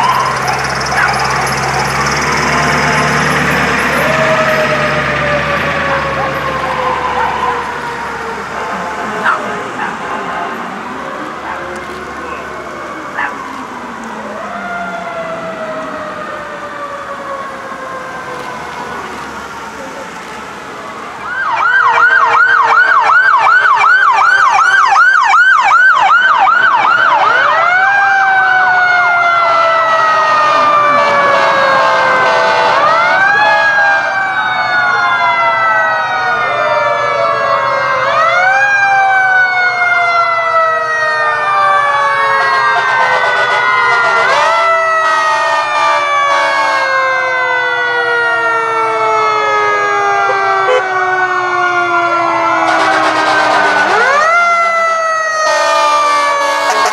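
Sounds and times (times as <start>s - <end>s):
siren yelp: 0.0s - 56.9s
wail sirens: 0.0s - 56.9s.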